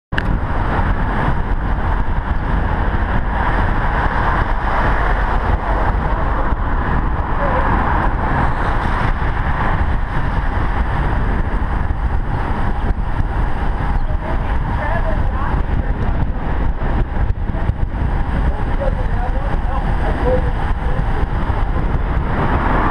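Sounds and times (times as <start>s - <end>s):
wind rushing over microphone: 0.1s - 22.9s.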